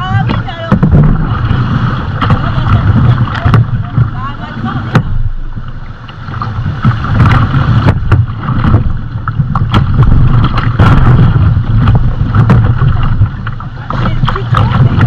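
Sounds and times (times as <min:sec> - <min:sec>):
knocks against kayak hull: 0:00.0 - 0:04.2, 0:04.8 - 0:05.3, 0:06.3 - 0:15.0
river water rushing and splashing: 0:00.0 - 0:15.0.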